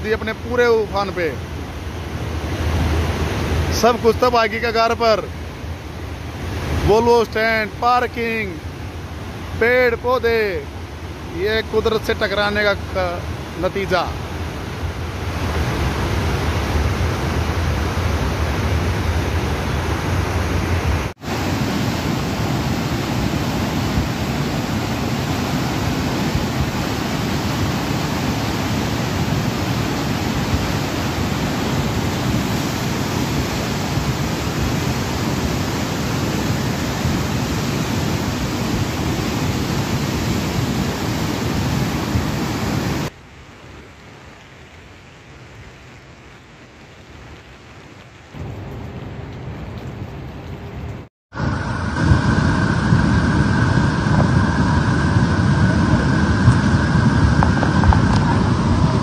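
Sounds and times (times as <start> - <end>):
flooded river rushing: 0.0 - 59.0.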